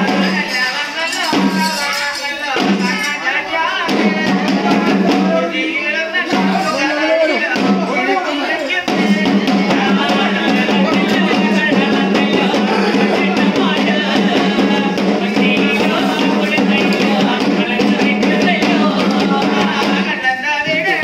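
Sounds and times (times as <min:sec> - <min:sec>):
fast drumming: 0:00.0 - 0:21.0
person singing: 0:00.0 - 0:21.0.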